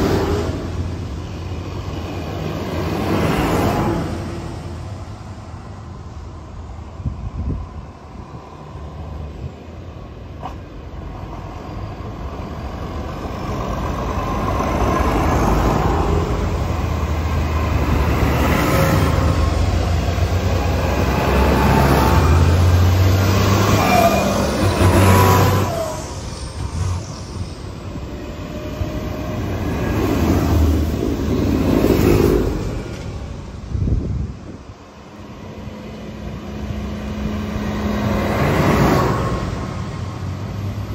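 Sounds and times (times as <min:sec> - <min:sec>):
tractor diesel engines passing: 0:00.0 - 0:40.9.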